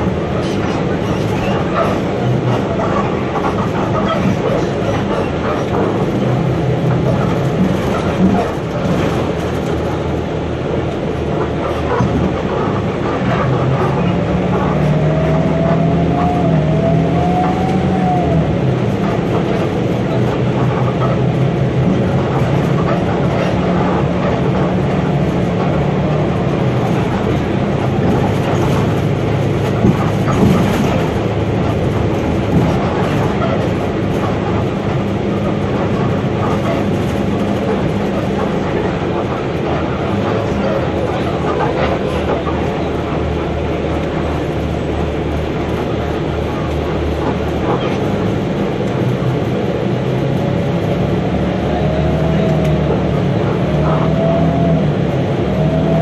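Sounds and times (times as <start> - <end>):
bus engine hum: 0.0 - 56.0
road noise: 0.0 - 56.0.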